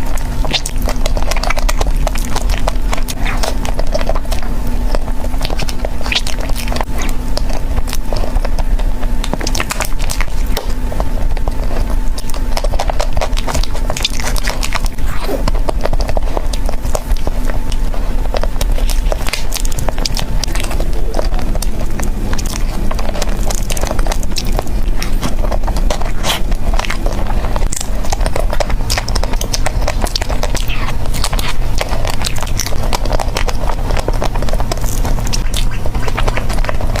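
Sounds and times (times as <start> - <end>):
chewing and smacking: 0.0 - 37.0.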